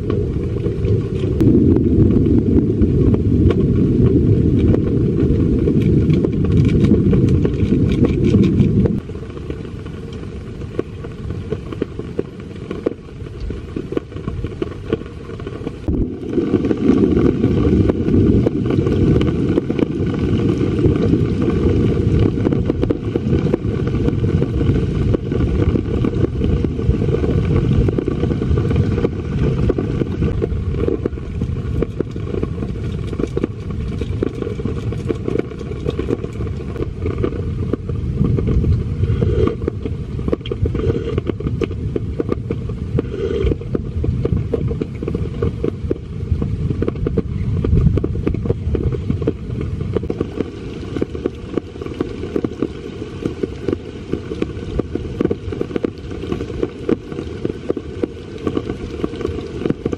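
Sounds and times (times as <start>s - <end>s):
heavy rain on tent: 0.0s - 59.9s
low rumble: 0.0s - 59.9s.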